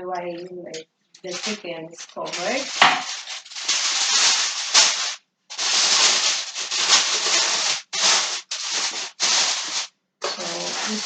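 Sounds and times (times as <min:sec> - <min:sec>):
aluminium foil crinkling: 0:01.2 - 0:11.0.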